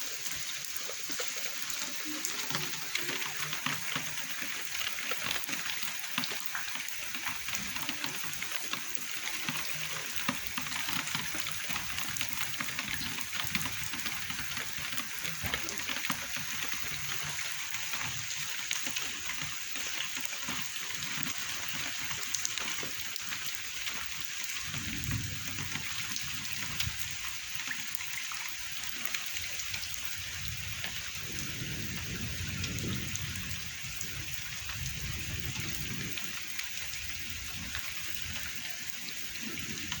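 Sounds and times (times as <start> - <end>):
rain drops ticking: 0.0 - 40.0.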